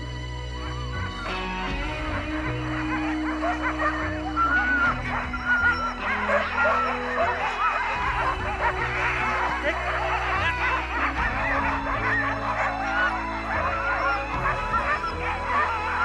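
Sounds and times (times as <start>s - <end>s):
music with low chords: 0.0s - 16.0s
sled dogs barking and yelping: 0.0s - 16.0s.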